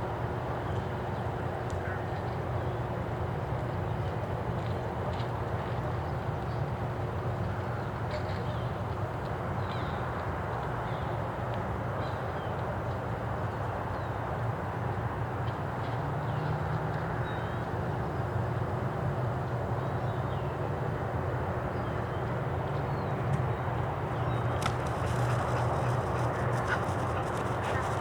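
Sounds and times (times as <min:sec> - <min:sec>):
distant traffic rumble: 0:00.0 - 0:28.0.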